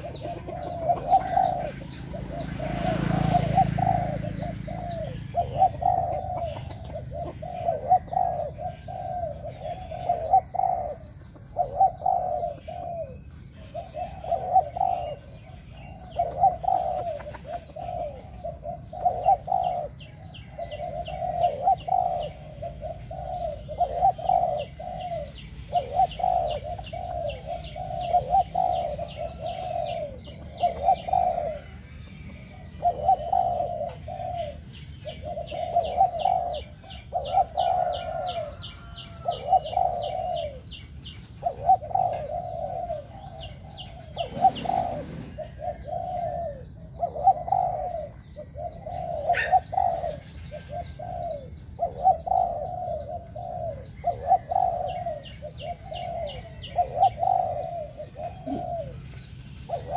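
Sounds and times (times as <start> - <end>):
dove cooing: 0.0 - 59.9
rustle: 0.0 - 59.9
small bird chirping: 0.0 - 59.9.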